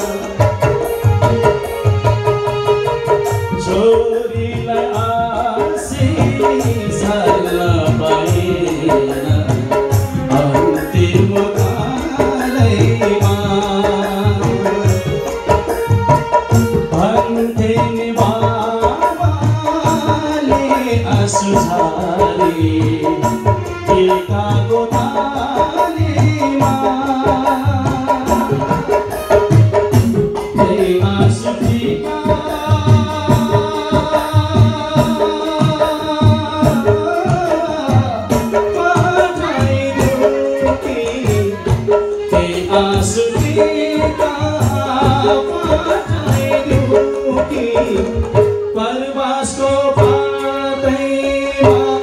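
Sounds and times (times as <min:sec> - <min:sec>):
electronic keyboard melody: 0:00.0 - 0:52.0
hand drum beating: 0:00.0 - 0:52.0
man singing into microphone: 0:00.0 - 0:52.0.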